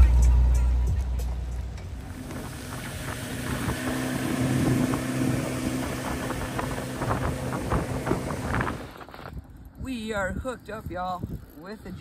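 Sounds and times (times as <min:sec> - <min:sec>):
outboard motor droning: 0:00.0 - 0:10.0
wind buffeting microphone: 0:01.6 - 0:12.0.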